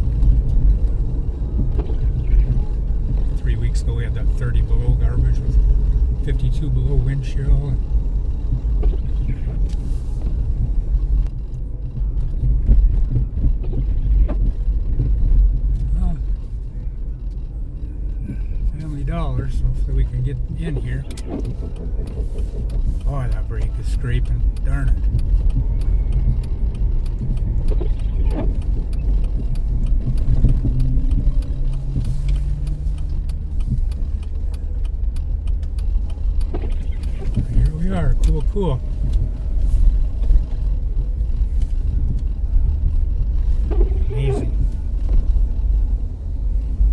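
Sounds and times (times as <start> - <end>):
car interior rumble: 0.0 - 46.9
faint clicks and knocks: 8.0 - 46.9.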